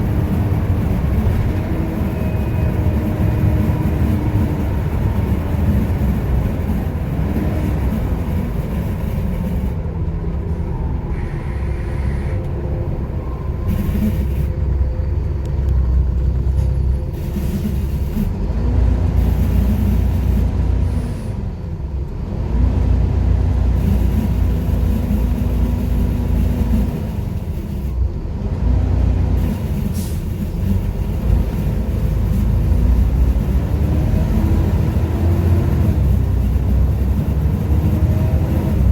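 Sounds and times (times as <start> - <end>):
bus diesel engine accelerating: 0.0 - 38.9.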